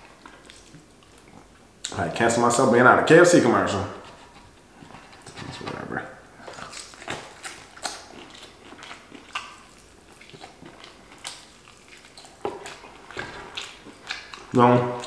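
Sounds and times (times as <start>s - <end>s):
crunchy chewing of fried food: 0.0s - 2.0s, 3.9s - 15.0s.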